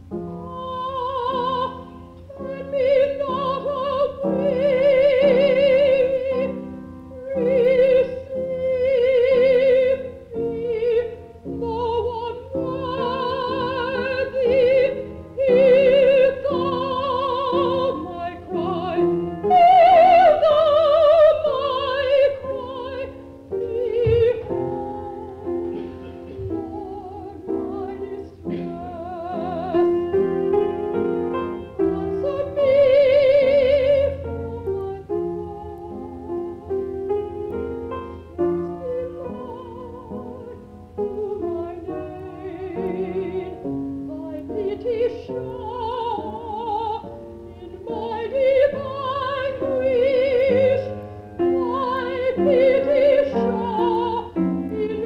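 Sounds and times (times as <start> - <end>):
piano accompaniment: 0.0 - 55.0
operatic singing: 0.3 - 37.8, 38.4 - 55.0.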